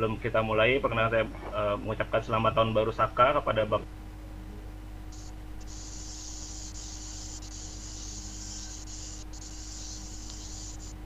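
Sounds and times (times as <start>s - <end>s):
high line noise hiss: 0.0s - 11.0s
low electrical hum: 0.0s - 11.0s.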